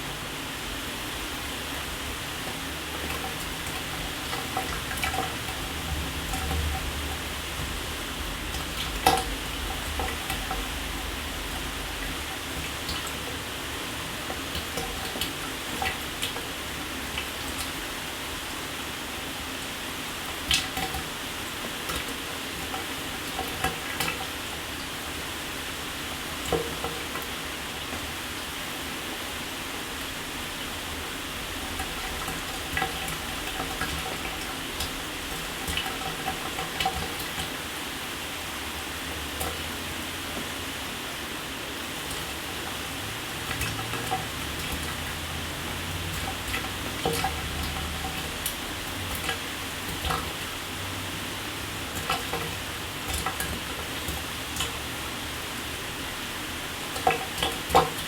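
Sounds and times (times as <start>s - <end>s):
water splashes and drips: 0.2s - 58.0s.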